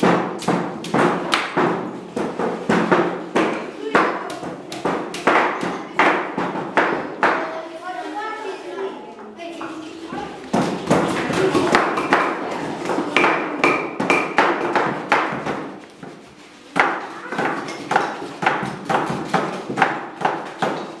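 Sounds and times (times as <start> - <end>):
mallets knocking chisels into wood: 0.0 - 7.4, 10.5 - 15.7, 16.8 - 21.0.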